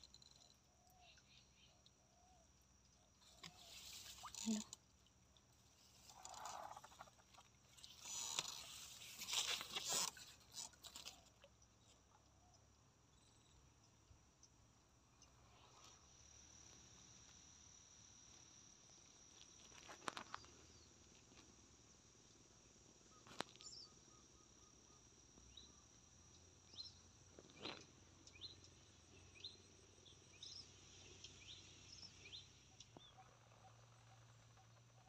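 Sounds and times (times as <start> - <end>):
insects chirring: 0.0 - 11.8, 13.1 - 35.0.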